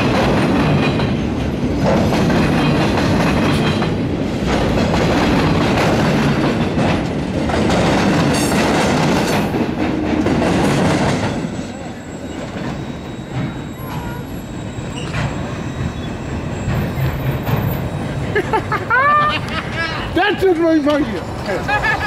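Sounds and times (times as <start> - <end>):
train wheels clattering over rails: 0.0 - 18.9.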